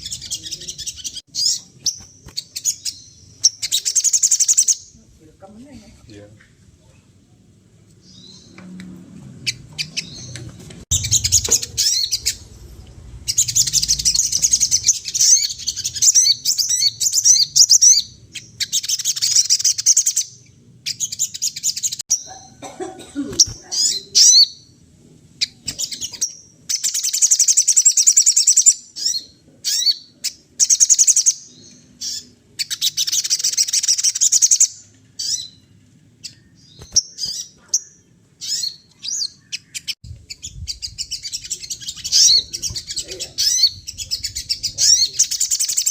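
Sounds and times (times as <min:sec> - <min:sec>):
songbird chattering song: 0:00.0 - 0:05.1, 0:09.4 - 0:22.6, 0:23.4 - 0:45.9.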